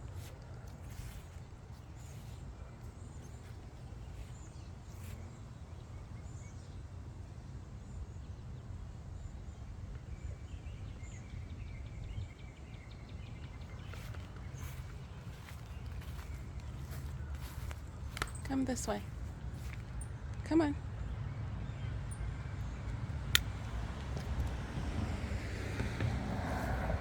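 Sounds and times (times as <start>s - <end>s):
low outdoor background rumble: 0.0s - 27.0s.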